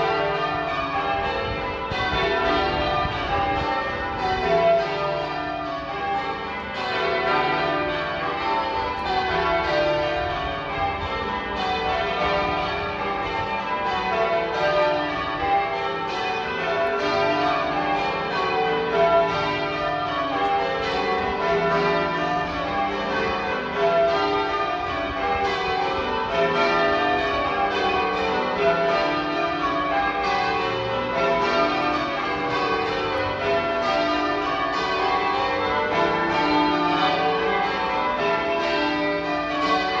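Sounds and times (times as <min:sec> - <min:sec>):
church bells change ringing: 0:00.0 - 0:40.0.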